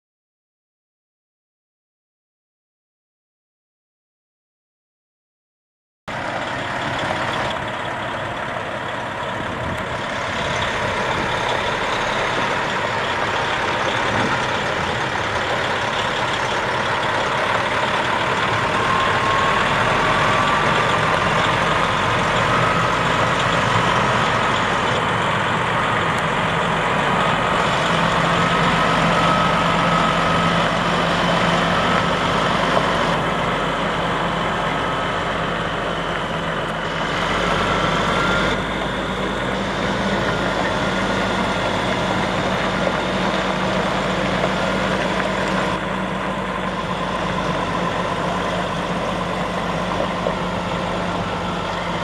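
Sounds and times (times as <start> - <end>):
diesel truck engine running: 6.1 - 52.0.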